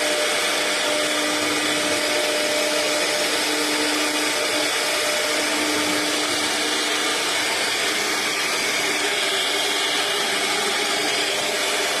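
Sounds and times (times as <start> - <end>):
router spindle cutting board: 0.0 - 12.0.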